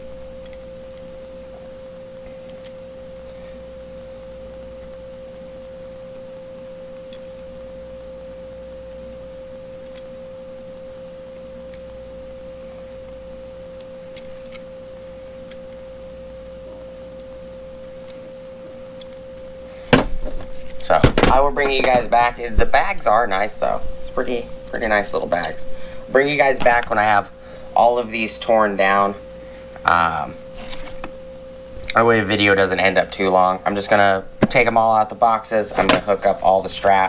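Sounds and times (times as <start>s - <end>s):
low hum: 0.0s - 37.0s
steady held tone: 0.0s - 37.0s.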